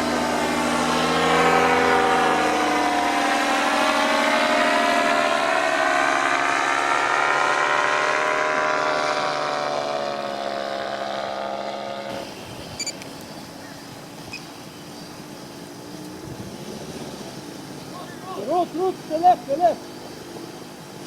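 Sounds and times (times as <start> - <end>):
propeller aircraft engines running: 0.0 - 21.0.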